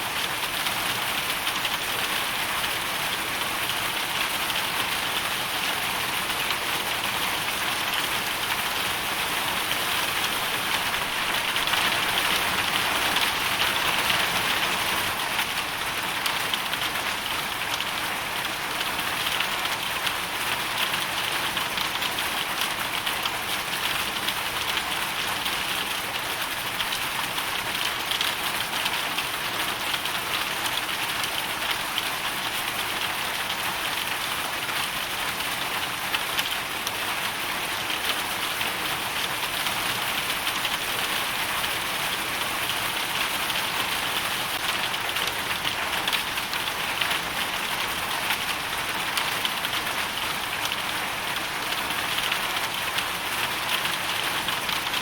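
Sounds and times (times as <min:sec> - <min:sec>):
hail and rain striking a surface: 0:00.1 - 0:55.0.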